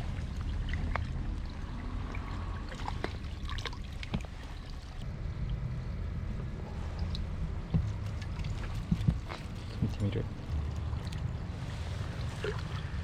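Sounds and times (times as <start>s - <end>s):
water trickling and splashing: 0.0s - 5.8s, 6.4s - 13.0s.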